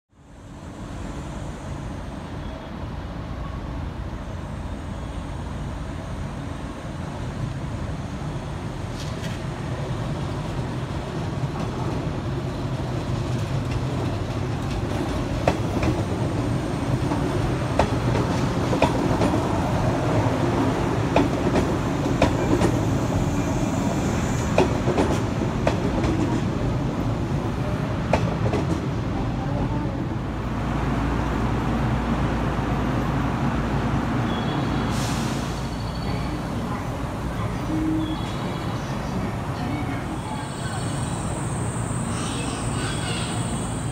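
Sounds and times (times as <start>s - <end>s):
train rumble: 0.2s - 43.9s.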